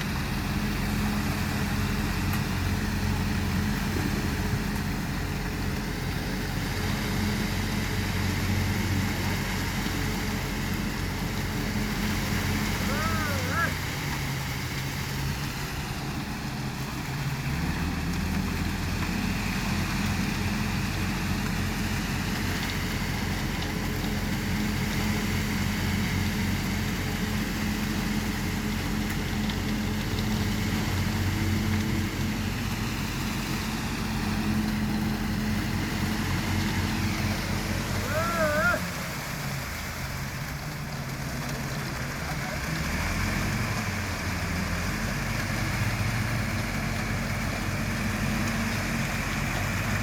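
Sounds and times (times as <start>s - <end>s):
machinery engine running: 0.0s - 50.0s.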